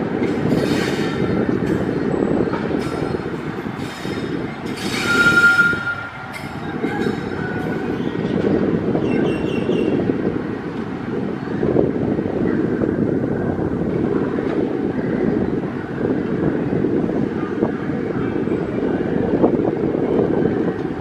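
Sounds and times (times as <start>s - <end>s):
electric locomotive rumbling: 0.0s - 21.0s.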